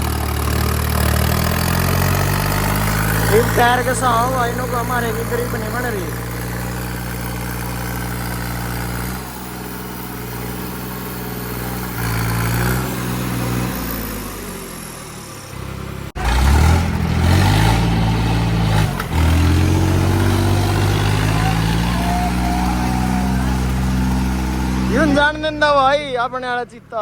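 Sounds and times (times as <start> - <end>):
tractor diesel engines under load: 0.0 - 27.0.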